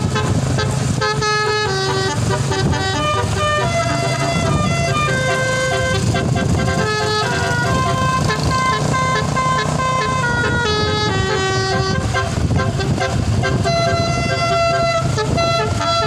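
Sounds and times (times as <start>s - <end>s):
dense low rumble: 0.0s - 16.0s
horn playing a tune: 0.0s - 16.0s.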